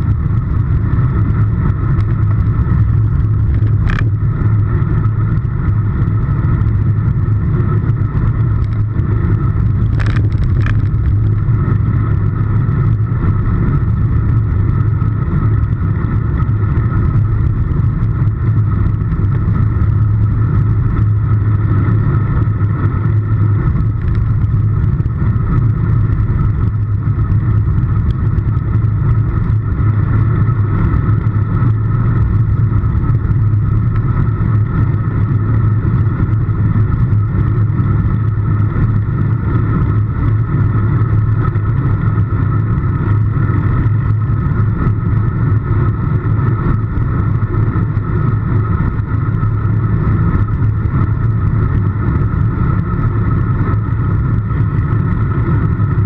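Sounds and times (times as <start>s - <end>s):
tyre noise on tarmac: 0.0s - 56.0s
wind rush on microphone: 0.0s - 56.0s.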